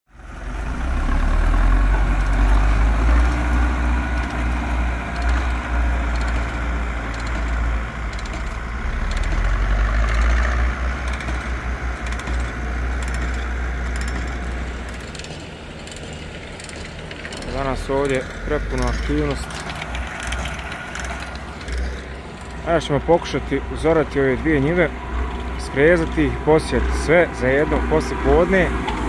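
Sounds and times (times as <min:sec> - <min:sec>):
tractor diesel engine droning: 0:00.1 - 0:29.0.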